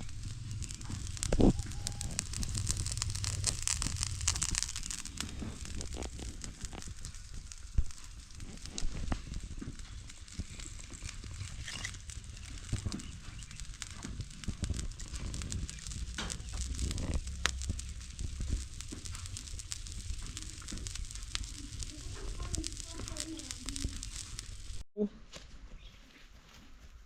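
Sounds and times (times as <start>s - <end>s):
fire crackling: 0.0s - 24.9s
low steady rumble: 0.0s - 24.9s
pot boiling: 0.0s - 24.9s
sharp pops: 0.0s - 24.9s.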